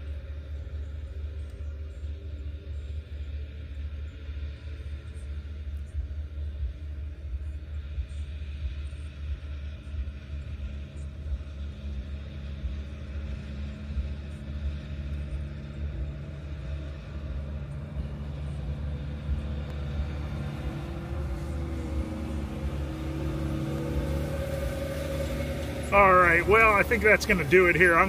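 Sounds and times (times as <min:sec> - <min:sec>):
farm machine engine hum: 0:00.0 - 0:28.0.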